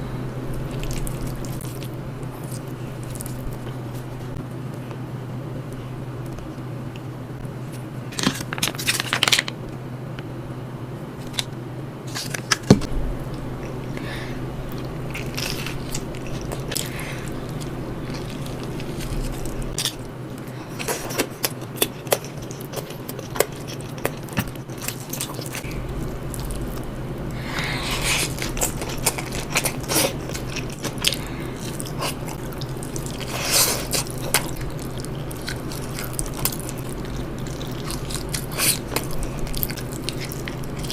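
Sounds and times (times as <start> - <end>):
steady low hum: 0.0 - 40.9
crunching and chewing: 0.5 - 5.0, 6.2 - 9.6, 11.2 - 40.9.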